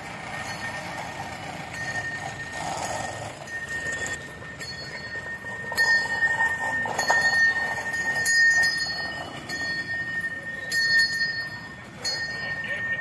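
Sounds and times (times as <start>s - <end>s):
metal bells clinking: 0.0s - 13.0s
street noise: 0.0s - 13.0s
steady high whine: 0.1s - 13.0s.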